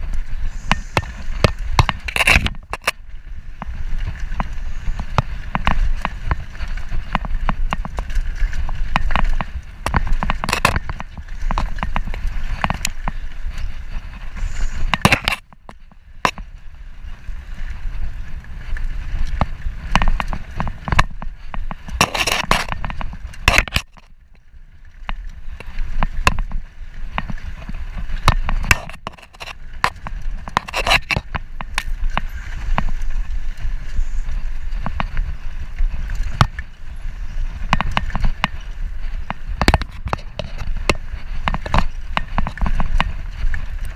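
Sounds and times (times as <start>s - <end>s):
bike rattles and clicks: 0.0s - 43.9s
bike tyres rolling over dirt: 0.0s - 43.9s
wind rumble on microphone: 0.0s - 43.9s.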